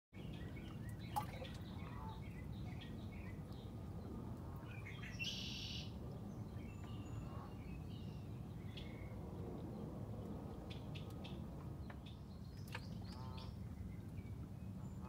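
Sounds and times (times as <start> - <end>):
low outdoor rumble: 0.2 - 15.0
small birds chirping: 0.2 - 15.0.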